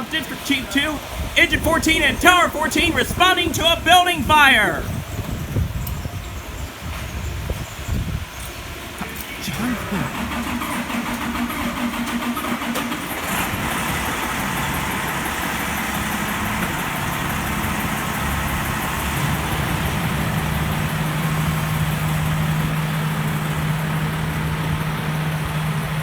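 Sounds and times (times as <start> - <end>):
fire engine motor humming: 0.0 - 26.0.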